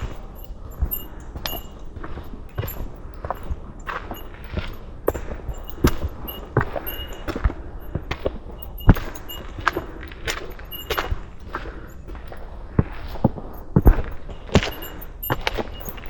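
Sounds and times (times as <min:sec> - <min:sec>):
footsteps on dirt and stone: 0:00.0 - 0:16.0.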